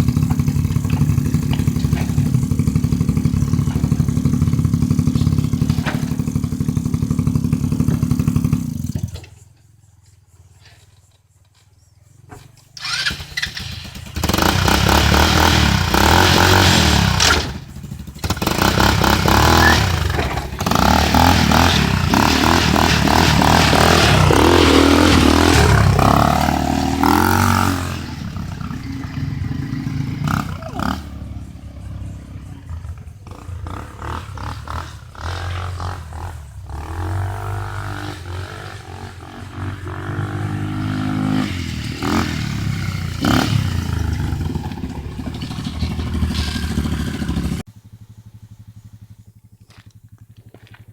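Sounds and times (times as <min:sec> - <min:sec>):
atv engine revving: 0:00.0 - 0:09.4, 0:12.8 - 0:50.9.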